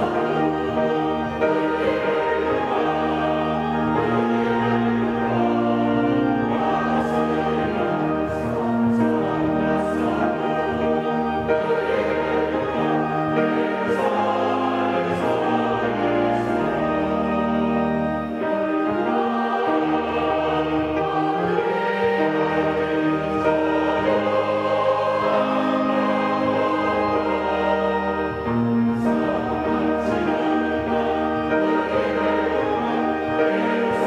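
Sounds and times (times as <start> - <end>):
choir singing a hymn: 0.0 - 34.0
organ: 0.0 - 34.0
piano: 0.0 - 34.0.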